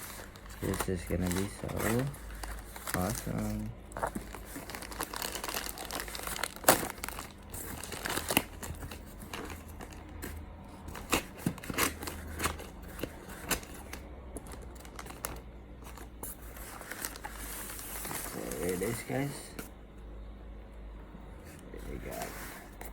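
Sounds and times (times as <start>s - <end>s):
packaging tearing: 0.0s - 10.3s, 10.9s - 19.1s
packaging crinkling: 0.0s - 19.3s.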